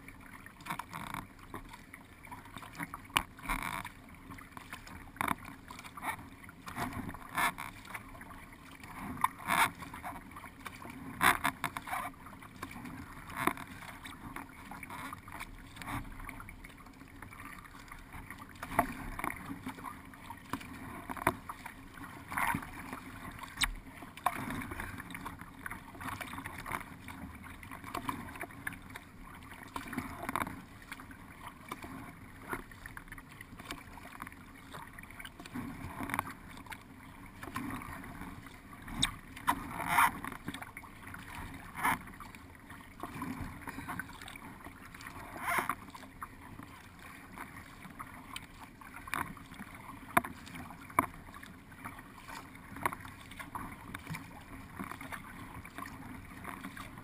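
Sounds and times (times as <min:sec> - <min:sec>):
paddle strokes splashing: 0:00.0 - 0:57.0
water washing along hull: 0:00.0 - 0:57.0.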